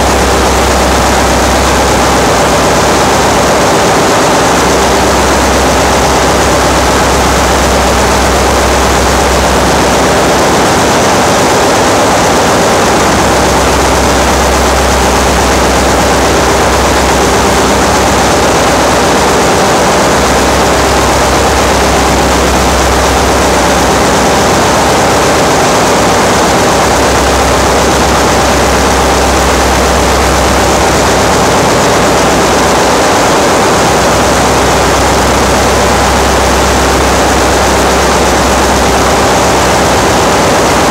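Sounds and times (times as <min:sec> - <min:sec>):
running machinery din: 0:00.0 - 0:40.9.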